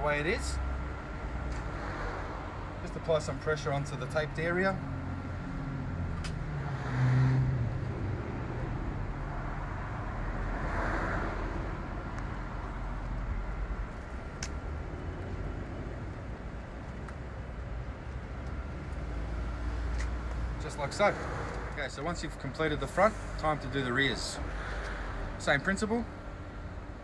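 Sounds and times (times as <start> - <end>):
vehicle passing: 0.0 - 26.7
road traffic: 0.0 - 27.0.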